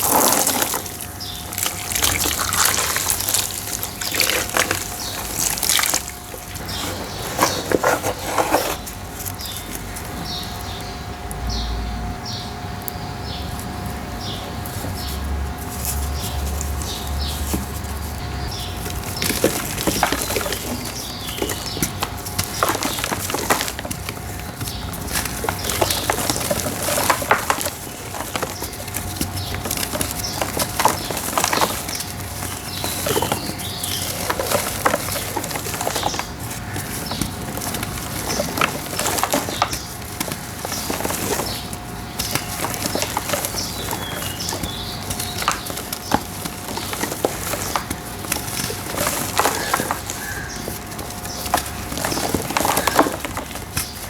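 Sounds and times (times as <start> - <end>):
brick dirt crunching by hand: 0.0 - 10.8, 13.6 - 54.0.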